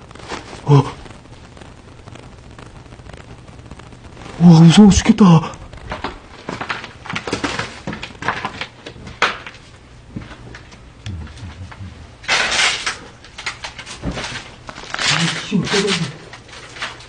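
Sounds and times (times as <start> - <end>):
rustling: 0.0 - 4.4, 5.6 - 17.0.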